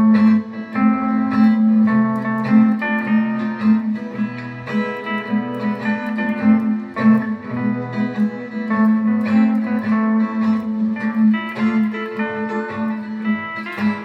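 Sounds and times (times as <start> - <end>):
steel guitar melody: 0.0 - 14.0.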